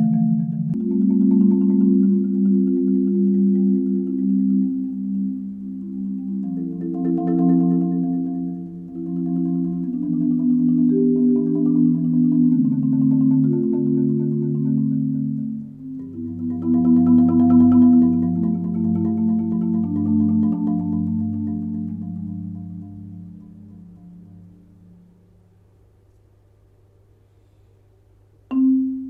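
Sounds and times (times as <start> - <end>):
marimba chords: 0.0 - 25.3, 28.5 - 29.0.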